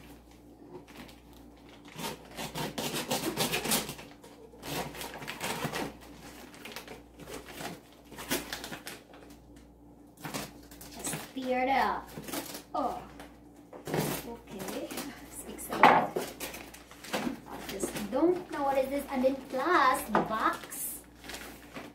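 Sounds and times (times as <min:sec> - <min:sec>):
plastic mailer crinkling: 0:03.4 - 0:21.9.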